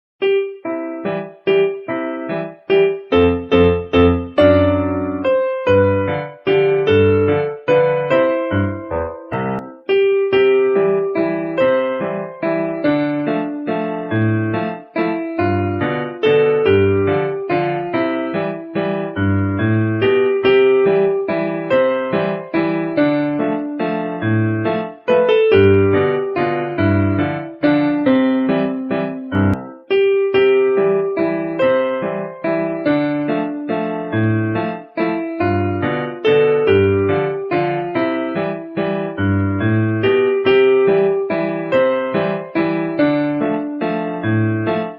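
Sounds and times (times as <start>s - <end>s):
electric piano melody: 0.2s - 44.9s.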